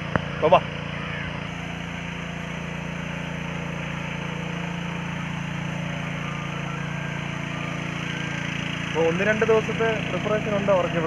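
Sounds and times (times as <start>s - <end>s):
water pump droning: 0.0s - 11.0s.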